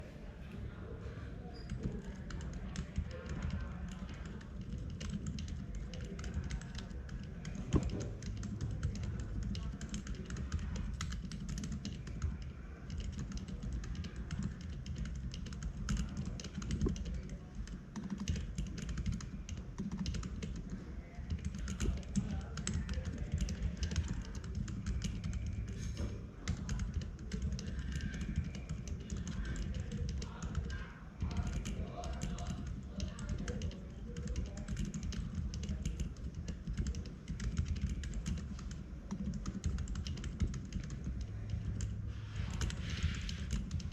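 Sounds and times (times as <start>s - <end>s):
typing on mechanical keyboard: 1.6s - 43.9s.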